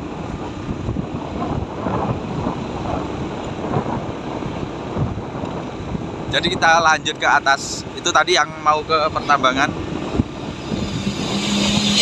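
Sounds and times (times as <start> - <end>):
vehicle moving along road: 0.0 - 12.0
wind rumbling on microphone: 0.0 - 12.0.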